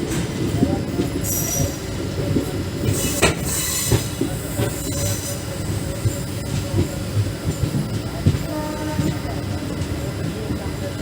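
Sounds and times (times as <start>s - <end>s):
train running on rails: 0.0s - 11.0s.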